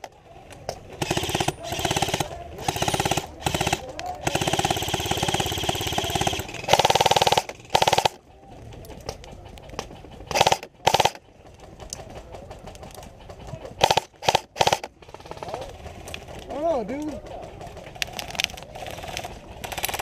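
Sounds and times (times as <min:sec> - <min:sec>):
airsoft guns firing full auto: 0:00.8 - 0:08.3, 0:09.8 - 0:16.6, 0:17.2 - 0:20.0.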